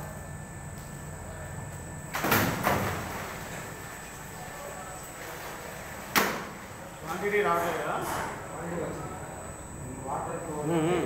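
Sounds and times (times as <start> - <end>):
faint high whine: 0.0 - 11.0
machine low hum: 0.0 - 11.0.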